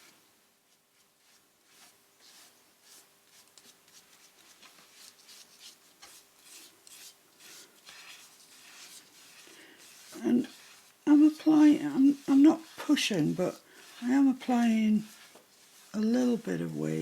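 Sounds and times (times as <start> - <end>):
brush rubbing strokes on paper: 0.0 - 17.0.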